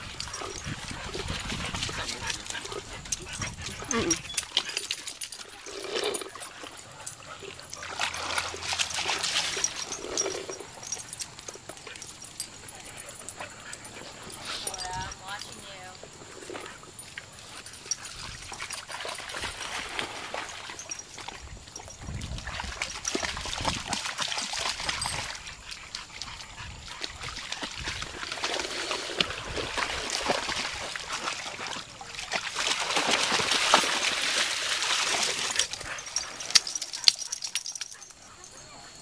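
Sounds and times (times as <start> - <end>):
dogs splashing in water: 0.0 - 38.3.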